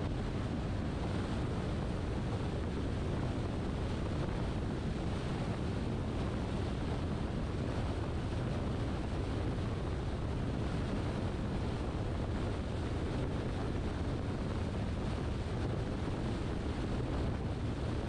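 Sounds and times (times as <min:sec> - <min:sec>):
car road and wind noise: 0:00.0 - 0:18.0.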